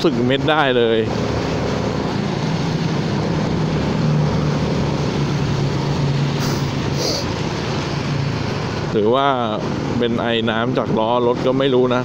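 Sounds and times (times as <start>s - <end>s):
wind and tyres on wet road: 0.0s - 12.0s.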